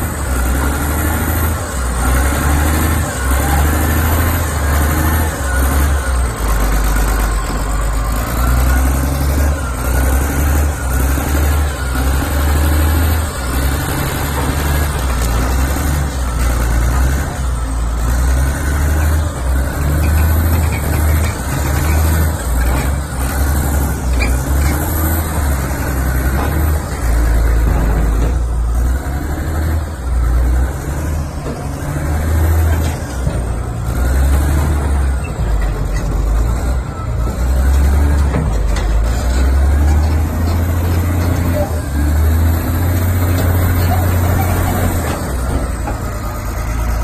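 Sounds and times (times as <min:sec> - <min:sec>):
bulldozer engine idling: 0:00.0 - 0:47.0.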